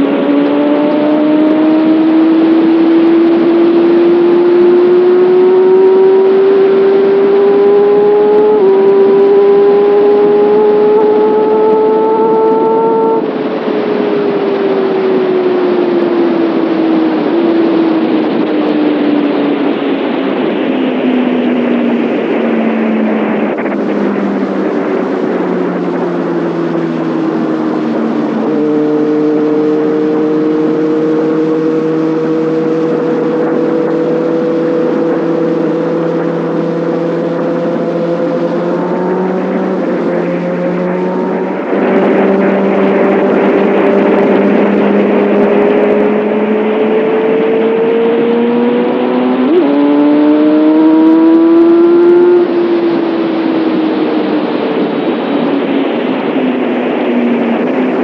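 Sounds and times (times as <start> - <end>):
motorcycle engine and exhaust: 0.0 - 58.0
wind rushing: 0.0 - 58.0.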